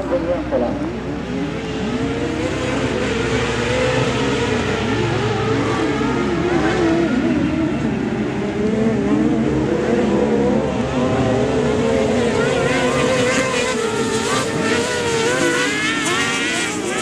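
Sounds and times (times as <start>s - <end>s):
buggy engines revving: 0.0s - 17.0s.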